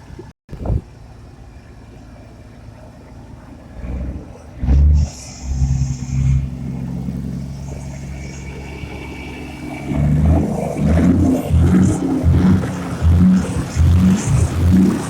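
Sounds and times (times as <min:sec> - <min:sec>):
vehicle engine revving: 0:00.6 - 0:15.0.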